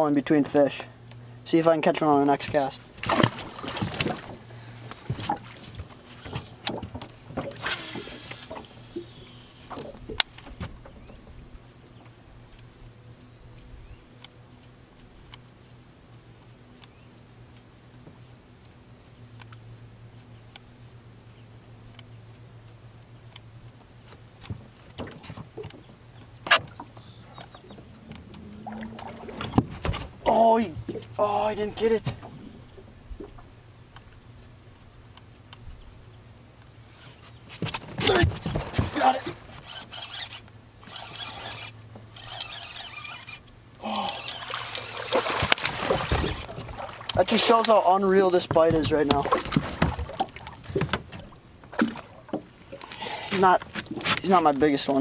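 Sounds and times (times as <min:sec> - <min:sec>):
electric trolling motor hum: 0:00.4 - 0:55.0
reel and rod clicks: 0:02.2 - 0:55.0.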